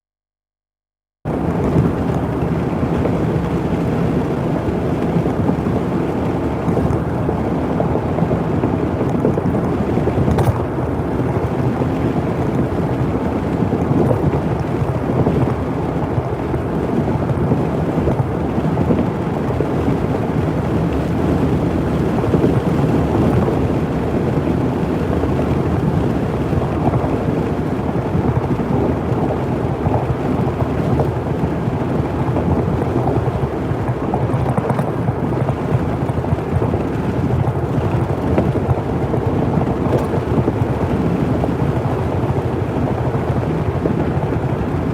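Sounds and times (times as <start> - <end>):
vehicle road and wind noise: 1.3 - 44.9.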